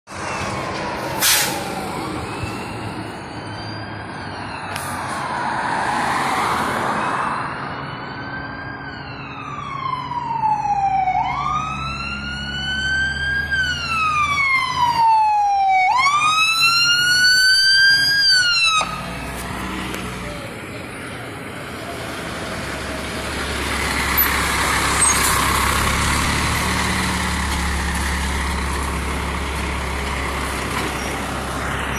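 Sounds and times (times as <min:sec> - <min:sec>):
fire engine siren wailing: 0:00.1 - 0:19.9, 0:21.2 - 0:31.9.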